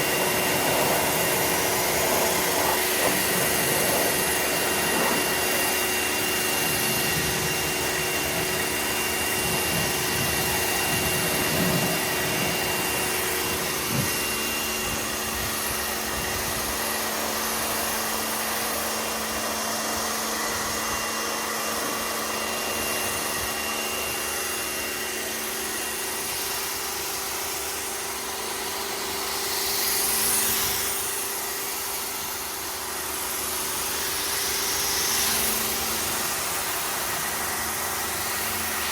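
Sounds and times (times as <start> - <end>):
pressure washer running: 0.0 - 38.9.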